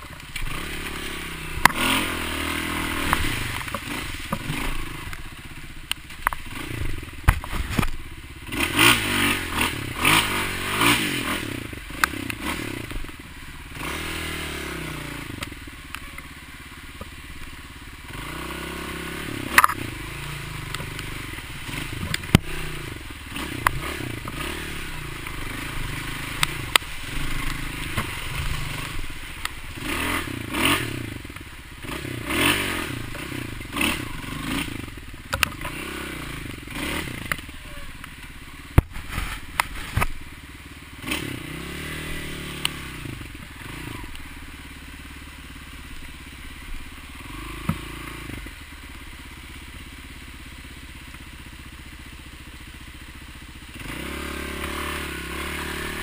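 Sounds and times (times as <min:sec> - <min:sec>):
dirt bike engine revving: 0:00.0 - 0:49.4, 0:53.6 - 0:56.0.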